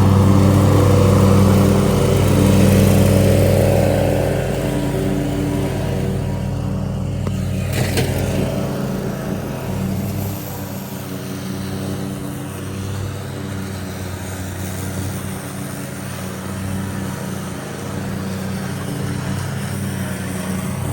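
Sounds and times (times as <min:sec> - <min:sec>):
lawn mower engine running: 0:00.0 - 0:20.9.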